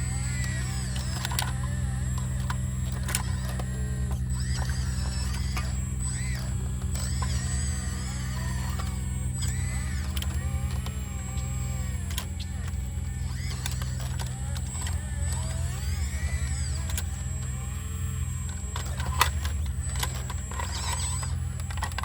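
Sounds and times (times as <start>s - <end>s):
clicks: 0.0s - 22.0s
excavator diesel engine running: 0.0s - 22.0s
hydraulic whines: 0.0s - 22.0s.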